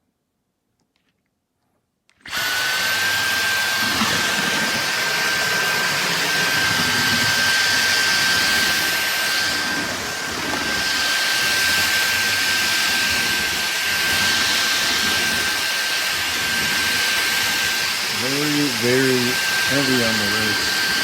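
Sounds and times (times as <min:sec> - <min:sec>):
cordless vacuum motor whining: 0:02.2 - 0:21.0.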